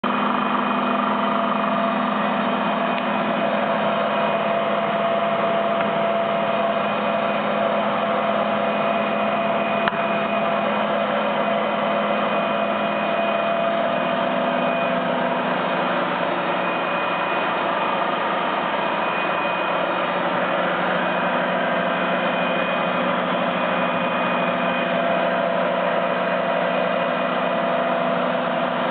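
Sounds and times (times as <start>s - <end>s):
lathe humming and whining: 0.0s - 28.9s.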